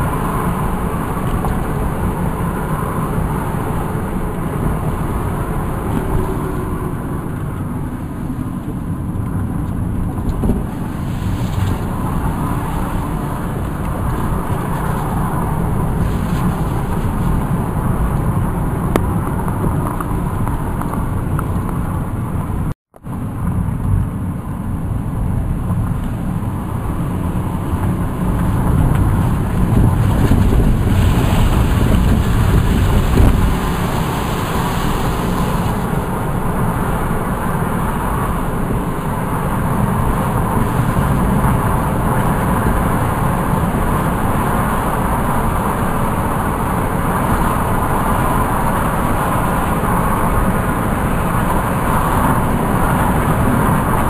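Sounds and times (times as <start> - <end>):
car road noise from cabin: 0.0 - 54.0.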